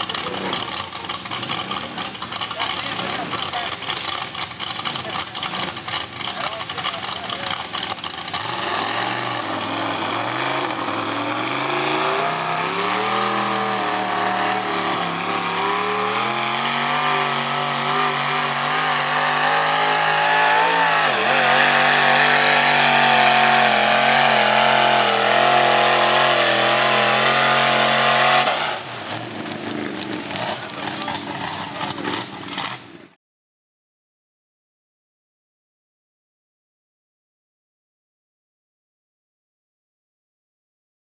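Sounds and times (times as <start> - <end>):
truck engine revving under load: 0.0 - 33.2.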